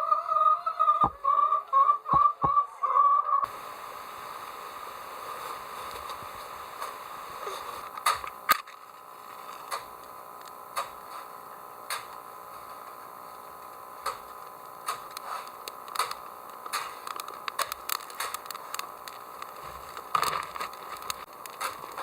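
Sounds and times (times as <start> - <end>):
steady hiss: 3.4 - 22.0.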